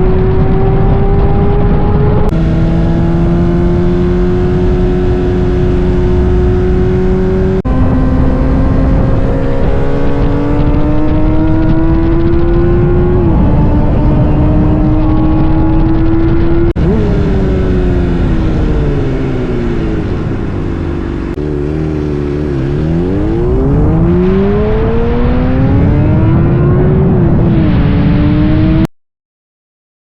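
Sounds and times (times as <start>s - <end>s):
motorcycle engine revving loud: 0.0s - 28.9s.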